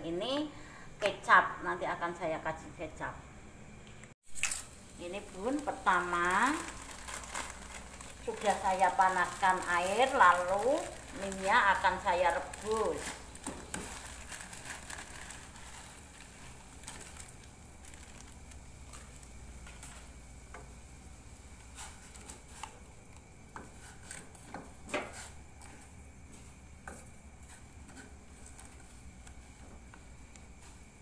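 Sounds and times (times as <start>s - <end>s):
boiling water hiss: 4.4s - 31.0s.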